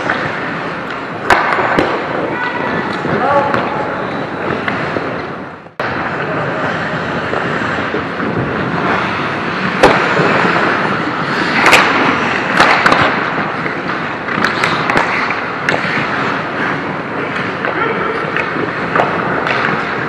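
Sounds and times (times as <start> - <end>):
hockey sticks and puck cracking: 0.0 - 20.0
skates scraping on ice: 0.0 - 20.0.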